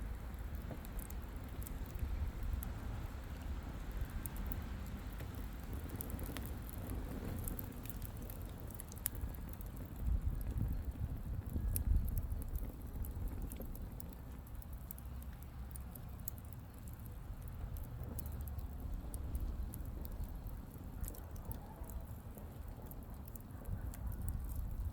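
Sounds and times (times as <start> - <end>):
campfire crackling: 0.0 - 24.9.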